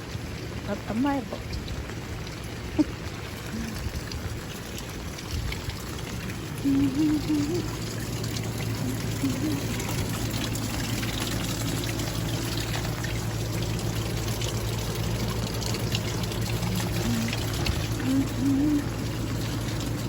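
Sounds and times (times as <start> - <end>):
rainwater pouring and trickling: 0.0 - 20.0.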